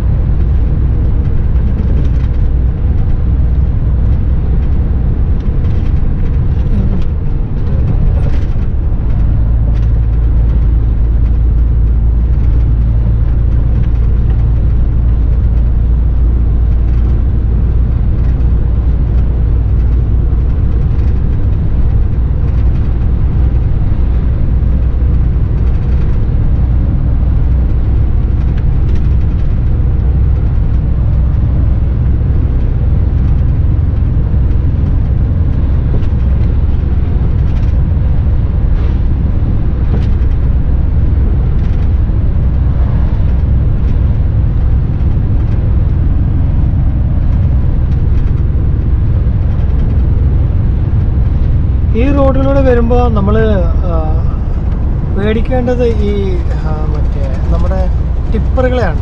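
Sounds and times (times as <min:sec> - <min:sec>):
truck engine and road rumble: 0:00.0 - 0:59.0.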